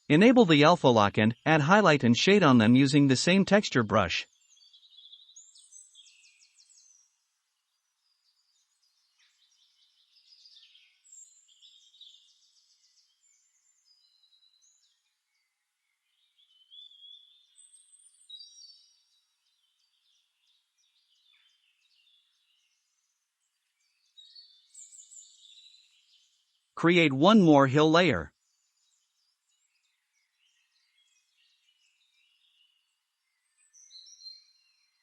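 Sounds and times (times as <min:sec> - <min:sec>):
faint birds chirping and trilling: 0:04.2 - 0:26.8, 0:28.2 - 0:35.0.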